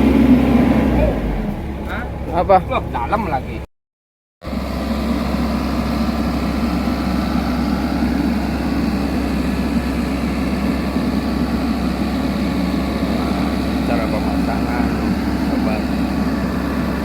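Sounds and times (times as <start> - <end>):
excavator diesel engine running: 0.0 - 3.7, 4.4 - 17.0.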